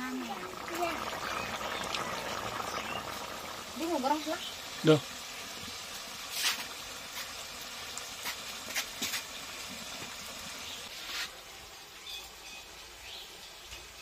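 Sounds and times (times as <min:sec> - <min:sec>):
curry simmering hiss: 0:00.0 - 0:14.0.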